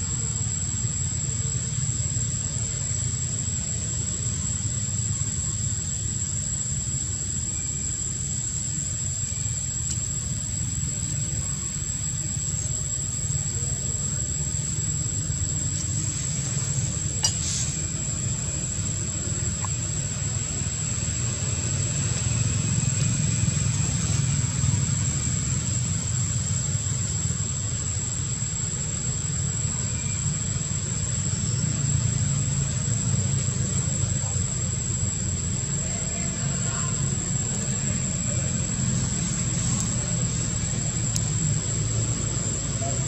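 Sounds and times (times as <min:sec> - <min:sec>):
continuous low rumble: 0:00.0 - 0:43.0
thin high-pitched whine: 0:00.0 - 0:43.0.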